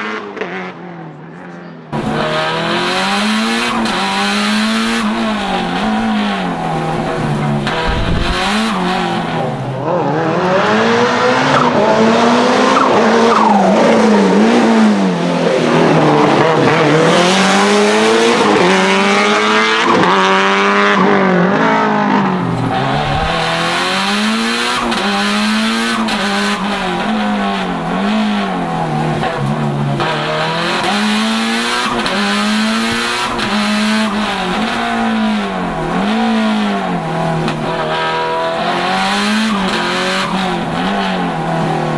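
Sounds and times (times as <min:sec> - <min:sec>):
car engine revving: 0:01.9 - 0:41.9.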